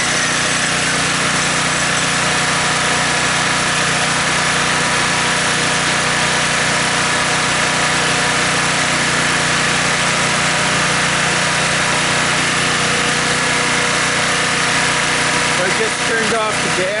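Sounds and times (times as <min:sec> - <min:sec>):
generator engine running steadily: 0:00.0 - 0:17.0.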